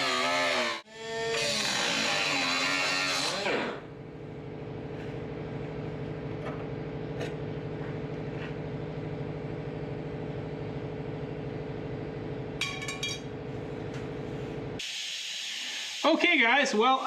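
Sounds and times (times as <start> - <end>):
machine hum: 0.0 - 14.8.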